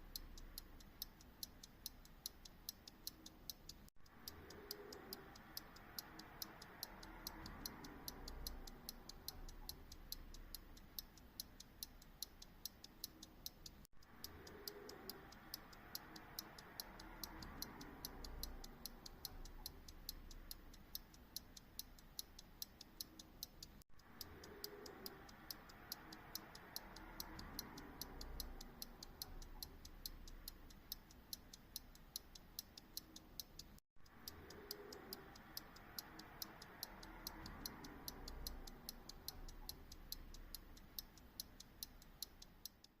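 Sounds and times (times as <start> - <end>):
pocket watch ticking: 0.0 - 43.0.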